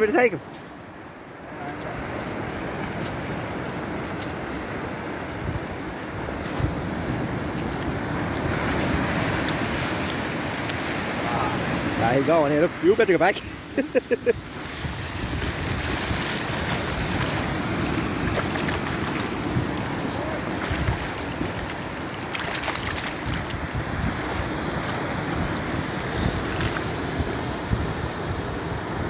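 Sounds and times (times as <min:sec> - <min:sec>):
waves washing on beach: 0:00.0 - 0:29.0
wind buffeting microphone: 0:01.8 - 0:29.0.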